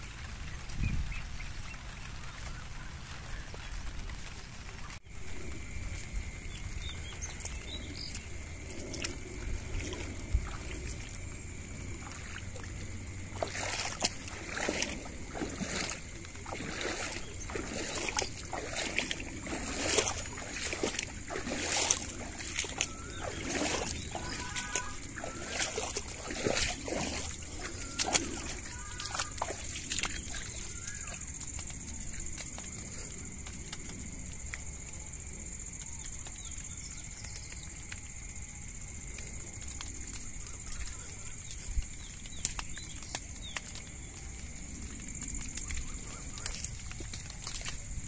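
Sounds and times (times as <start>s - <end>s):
floodwater rushing: 0.0s - 35.0s, 39.2s - 48.0s
water splashes: 0.0s - 48.0s.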